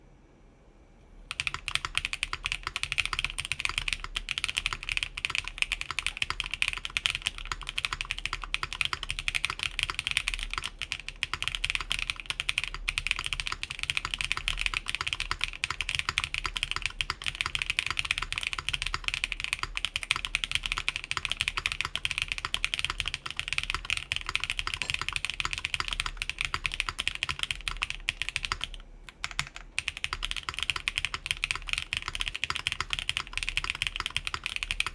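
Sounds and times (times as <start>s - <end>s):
typing on mechanical keyboard: 1.3s - 34.9s.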